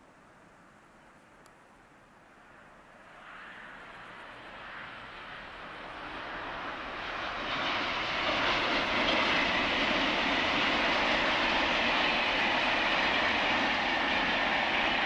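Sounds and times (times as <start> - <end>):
high-speed train passing: 2.3 - 15.0.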